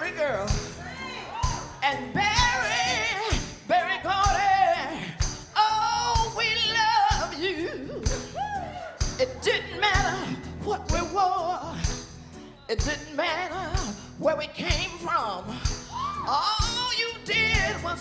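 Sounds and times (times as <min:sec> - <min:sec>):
soul band playing: 0:00.0 - 0:18.0
steady drum beat: 0:00.0 - 0:18.0.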